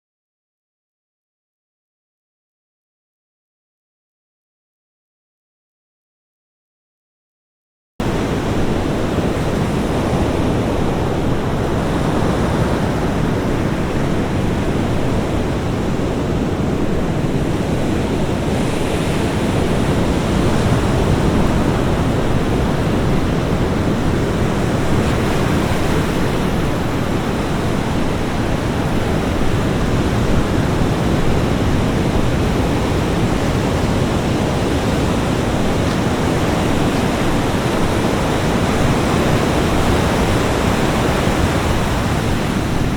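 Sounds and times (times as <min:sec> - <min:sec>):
ocean waves breaking: 0:08.0 - 0:42.9.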